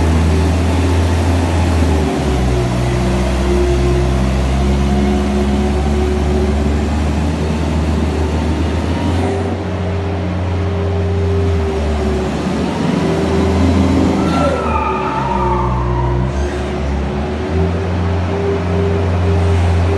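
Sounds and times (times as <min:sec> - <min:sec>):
loader engine running: 0:00.0 - 0:19.9.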